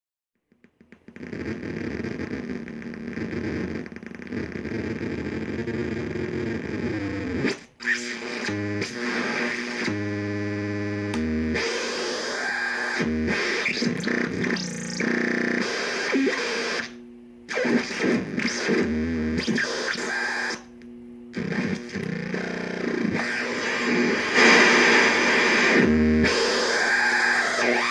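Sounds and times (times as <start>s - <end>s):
harsh electronic synth buzzing: 1.2s - 27.9s.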